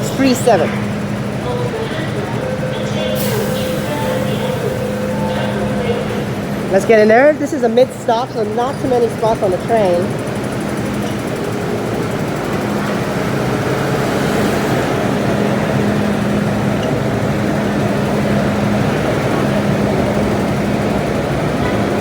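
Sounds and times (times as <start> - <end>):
train cabin rumble: 0.0 - 22.0.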